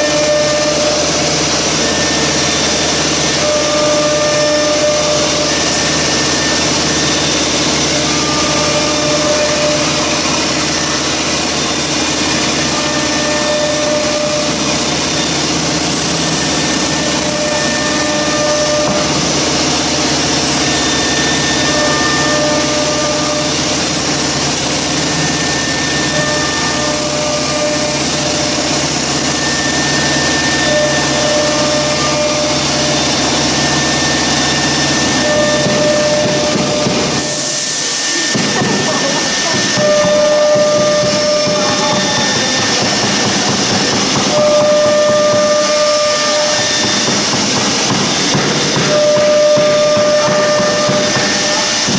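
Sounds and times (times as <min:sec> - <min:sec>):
cnc router running: 0:00.0 - 0:51.9
thin high whine: 0:00.0 - 0:51.9.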